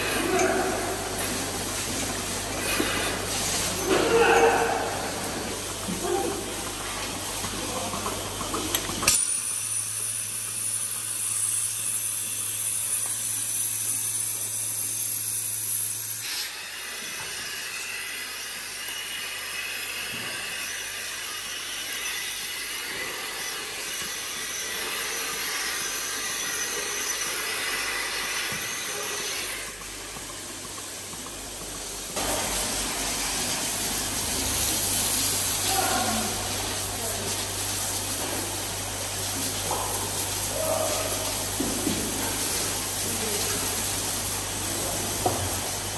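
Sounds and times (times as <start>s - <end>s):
milking machine hiss: 0.0s - 45.9s.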